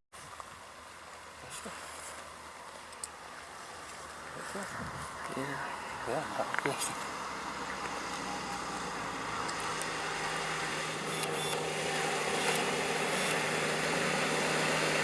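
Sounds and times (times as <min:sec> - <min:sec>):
car engine running: 0:00.7 - 0:15.0.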